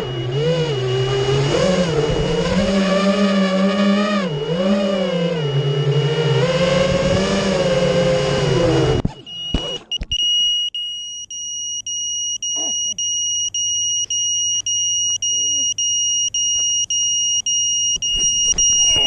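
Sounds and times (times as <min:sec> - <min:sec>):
high-pitched buzzer beeping: 0:00.0 - 0:07.8, 0:08.6 - 0:19.0.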